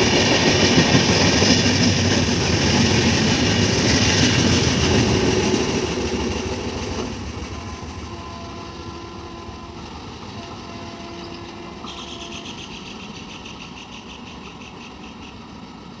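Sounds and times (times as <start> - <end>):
train wheel rumble: 0.0 - 16.0.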